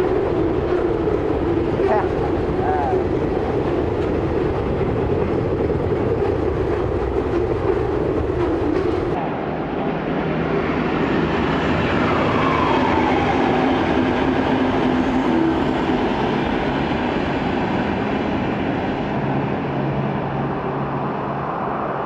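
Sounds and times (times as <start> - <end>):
rail rumble: 0.0 - 22.0.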